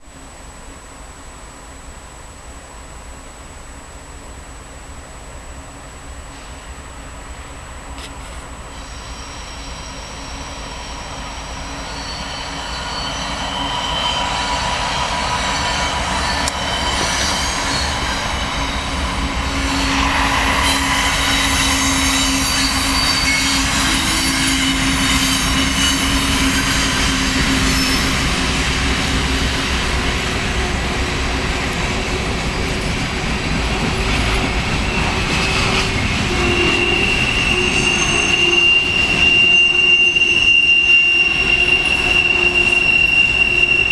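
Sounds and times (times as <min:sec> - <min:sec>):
train rumbling on rails: 0:00.0 - 0:43.9
wheels squealing: 0:08.7 - 0:43.9.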